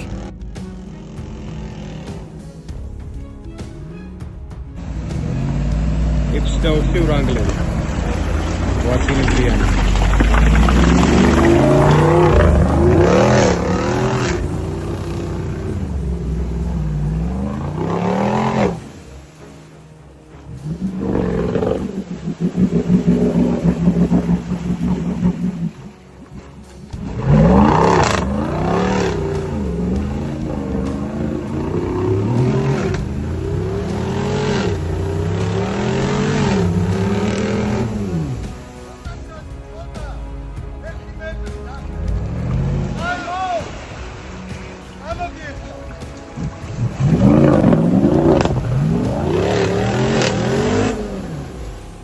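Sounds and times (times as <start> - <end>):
engine revving: 0.0 - 3.0, 4.8 - 52.0.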